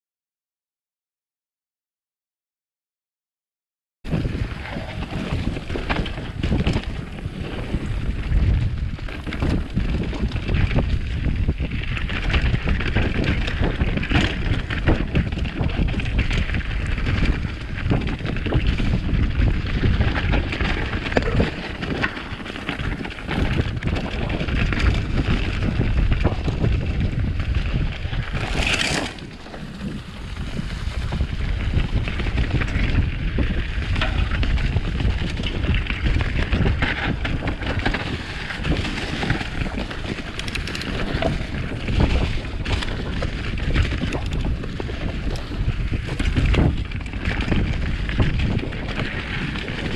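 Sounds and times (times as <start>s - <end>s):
bike knocks and rattles: 4.1s - 49.9s
bike tyres rolling on dirt: 4.1s - 49.9s
wind buffeting microphone: 4.1s - 49.9s.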